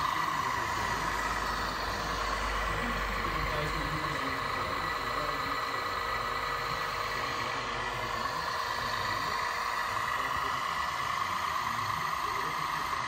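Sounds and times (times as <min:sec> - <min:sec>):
electric motor whine: 0:00.0 - 0:13.0
hiss: 0:00.0 - 0:13.0.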